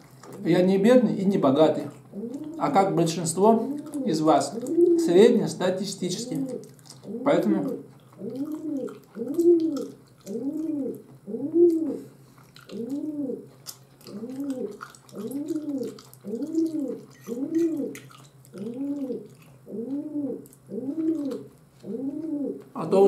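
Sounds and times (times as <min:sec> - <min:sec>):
bird cooing: 0:02.1 - 0:22.9.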